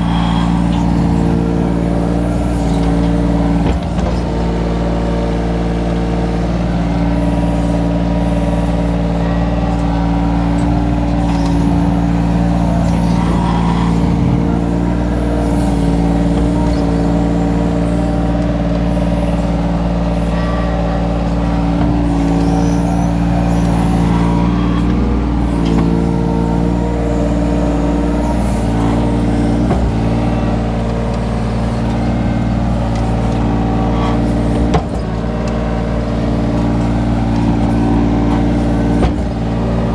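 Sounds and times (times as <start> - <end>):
excavator diesel engine and hydraulics: 0.0 - 39.9.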